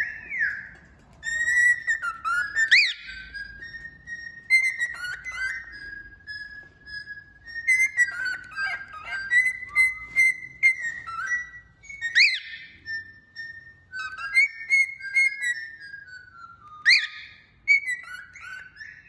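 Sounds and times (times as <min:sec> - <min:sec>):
cockatiel whistling and warbling: 0:00.0 - 0:19.0.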